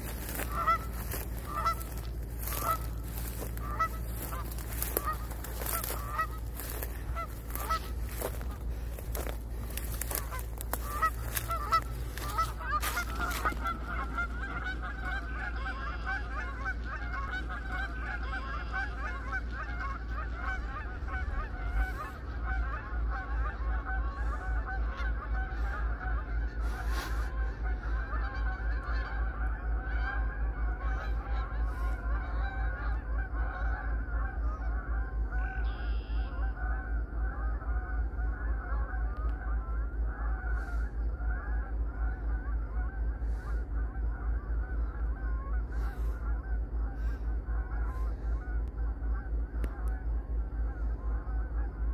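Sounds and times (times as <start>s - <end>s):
flock of geese honking: 0.0s - 51.9s
low pulsing rumble: 0.0s - 51.9s.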